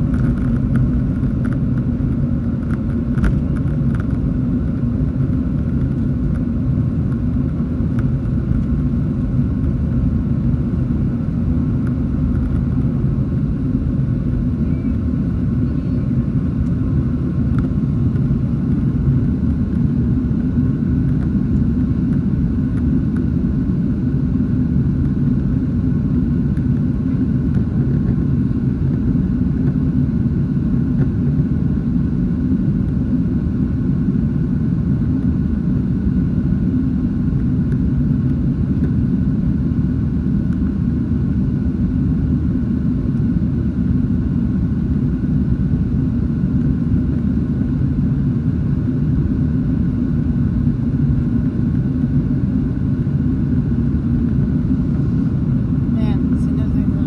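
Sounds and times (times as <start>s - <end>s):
faint steady whine: 0.0s - 57.0s
jet engine rumble and rushing air: 0.0s - 57.0s.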